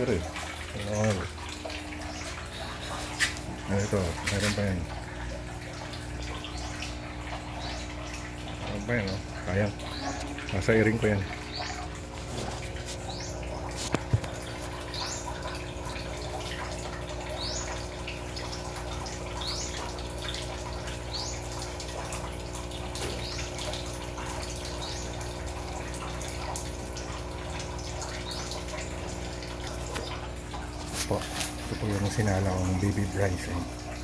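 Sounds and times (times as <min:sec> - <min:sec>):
water running and dripping: 0:00.0 - 0:34.0.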